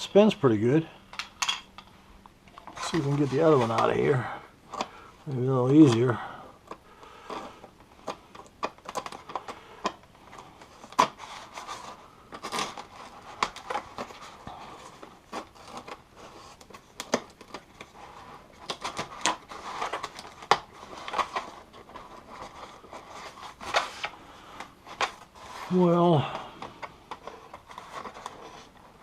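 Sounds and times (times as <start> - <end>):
packaging crinkling and scraping: 2.5 - 29.0.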